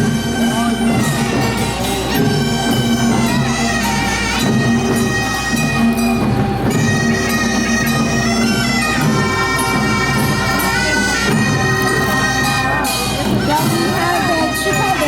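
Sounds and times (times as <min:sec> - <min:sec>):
double-reed horns playing melody: 0:00.0 - 0:15.0.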